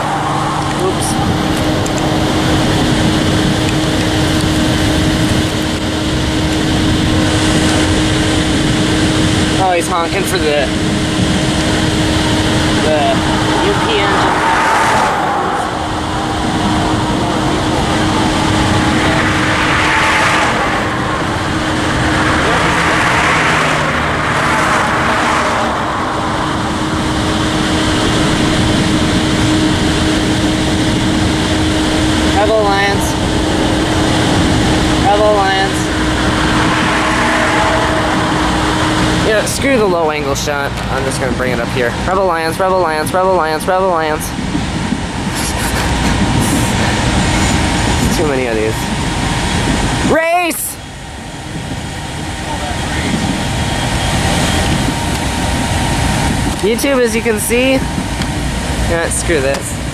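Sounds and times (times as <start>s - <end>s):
train wheels rumbling and rattling: 0.0s - 50.1s, 50.8s - 59.9s
low steady hum: 0.0s - 59.9s.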